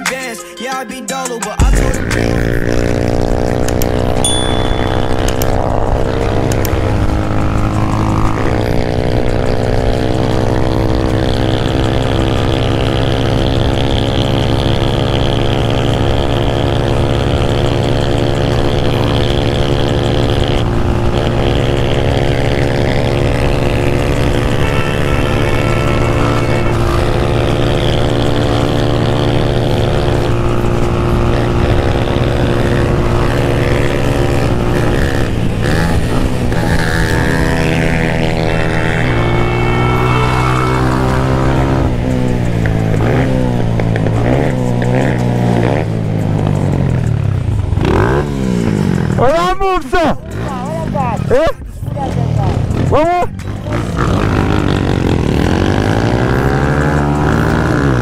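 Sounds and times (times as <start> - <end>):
motorcycle engine running: 1.6 - 58.0.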